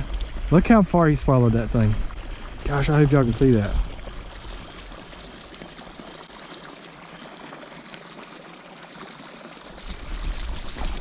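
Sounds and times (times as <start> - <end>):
water pouring into pond: 0.0 - 11.0.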